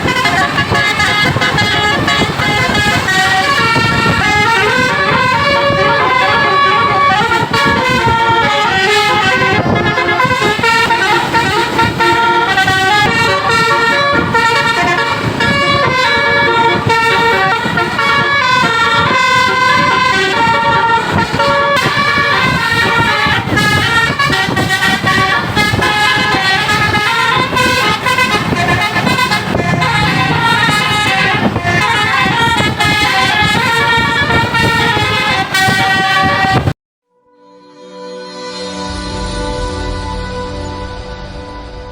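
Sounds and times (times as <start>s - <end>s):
low vehicle rumble: 0.0s - 36.7s, 38.6s - 41.9s
bus horns playing a tune: 0.0s - 41.9s.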